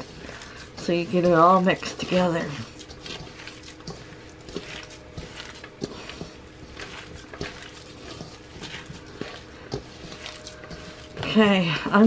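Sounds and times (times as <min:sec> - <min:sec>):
hand squishing moist mixture: 0:00.0 - 0:12.0.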